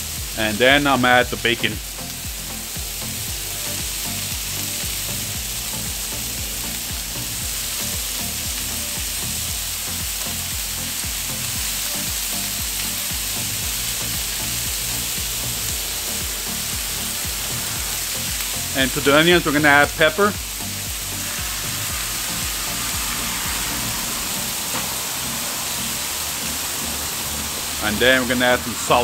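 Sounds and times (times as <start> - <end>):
background music with beat: 0.0 - 29.0
meat sizzling on a griddle: 0.0 - 29.0.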